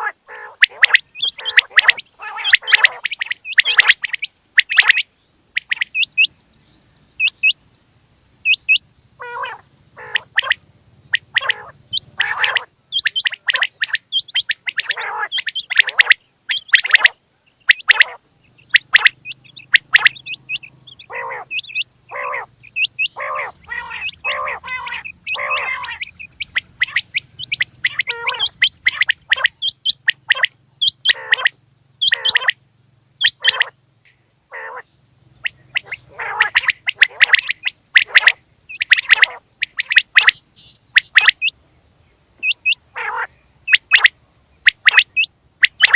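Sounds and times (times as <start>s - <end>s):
quail calling: 0.0s - 6.3s, 7.2s - 7.6s, 8.4s - 32.6s, 33.2s - 33.8s, 34.5s - 41.6s, 42.4s - 45.9s.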